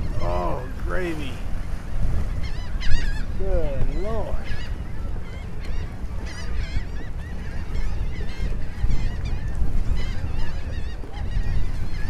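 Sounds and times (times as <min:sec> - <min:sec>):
birds chirping: 0:00.0 - 0:12.0
wind buffeting microphone: 0:00.0 - 0:12.0.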